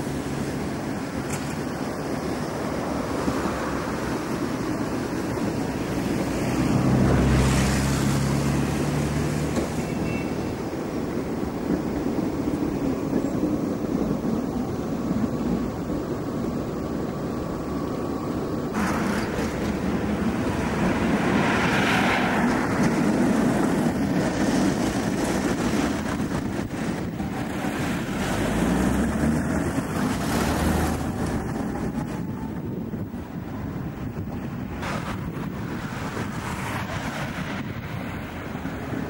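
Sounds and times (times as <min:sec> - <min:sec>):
road vehicles passing: 0:00.0 - 0:39.0
tram passing: 0:00.0 - 0:39.0.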